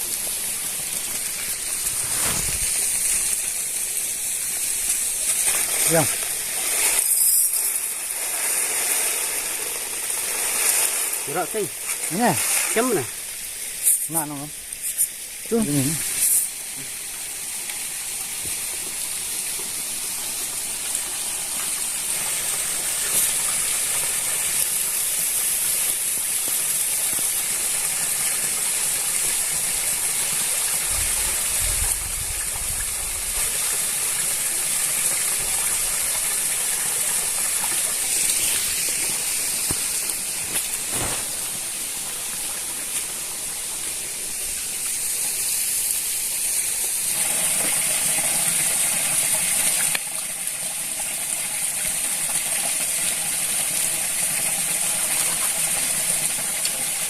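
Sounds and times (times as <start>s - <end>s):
food sizzling in a pan: 0.0s - 31.7s, 33.3s - 50.4s.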